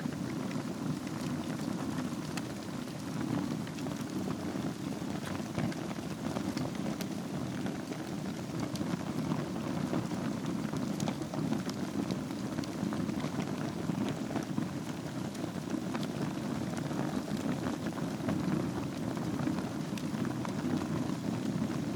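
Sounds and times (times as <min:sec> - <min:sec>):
fire crackles and pops: 0:00.0 - 0:21.9
fire rushing: 0:00.0 - 0:21.9.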